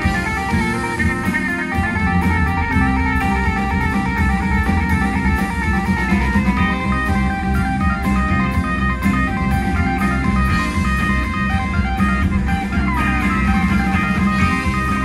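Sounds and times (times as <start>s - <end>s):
electric guitar: 0.0s - 15.0s
rock band playing: 0.0s - 15.0s.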